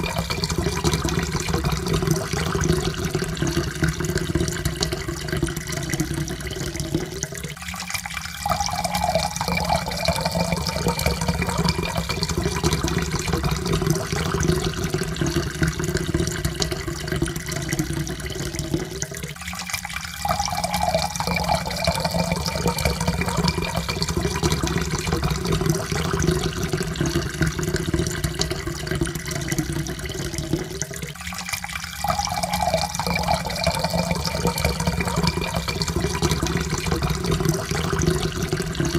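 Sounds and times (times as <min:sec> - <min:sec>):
water pouring into a cup: 0:00.0 - 0:38.9.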